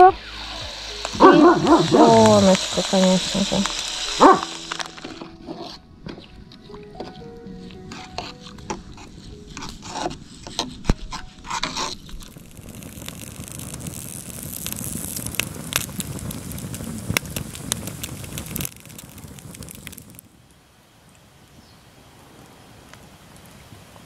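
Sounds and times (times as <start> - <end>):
scraping: 0.0 - 20.0
campfire crackling and popping: 0.0 - 24.0.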